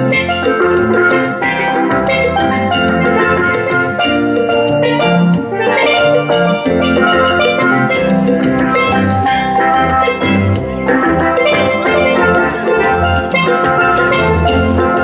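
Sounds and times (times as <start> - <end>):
steelpans playing a lively tune: 0.0 - 15.0.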